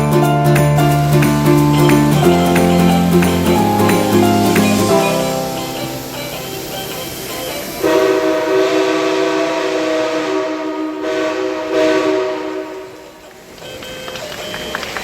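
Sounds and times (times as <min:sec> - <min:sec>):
train horn chord: 0:00.8 - 0:13.5.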